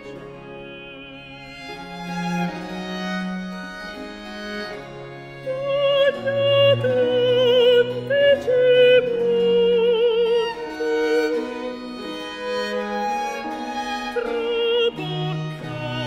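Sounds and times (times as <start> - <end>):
bowed strings: 0.0 - 16.0.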